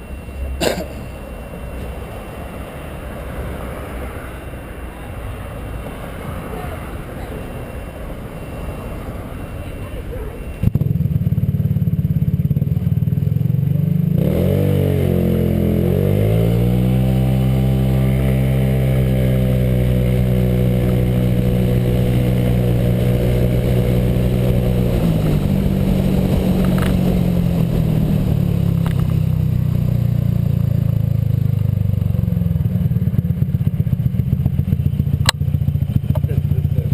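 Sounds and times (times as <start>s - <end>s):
scooter engine running: 0.0s - 36.9s.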